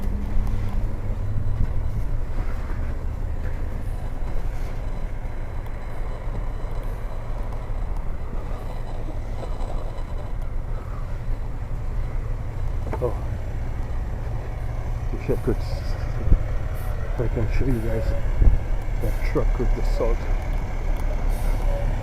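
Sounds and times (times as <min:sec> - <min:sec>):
heavy vehicle engine rumbling: 0:00.0 - 0:22.0.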